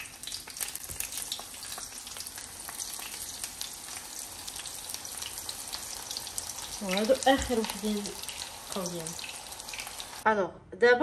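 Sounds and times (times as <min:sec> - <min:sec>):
eggplant frying in oil: 0:00.0 - 0:10.2.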